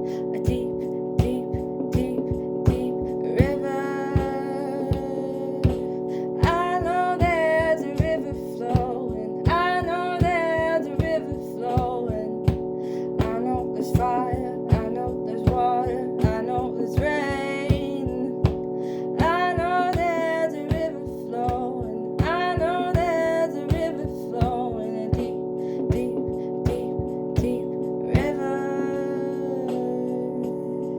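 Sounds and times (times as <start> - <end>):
person singing slow song: 0.0 - 30.9.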